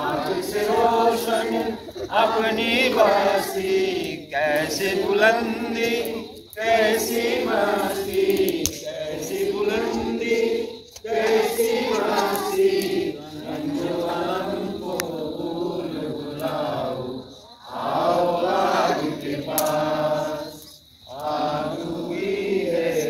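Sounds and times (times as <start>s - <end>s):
group of people singing: 0.0s - 23.0s.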